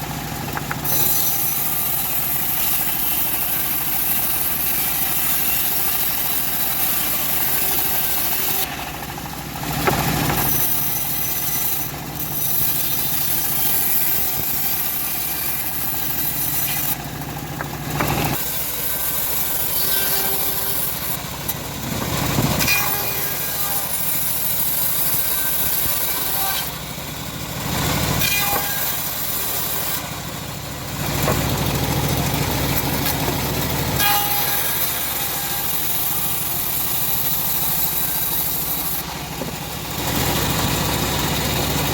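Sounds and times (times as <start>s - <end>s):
bandsaw mill sawing wood: 0.0s - 41.9s.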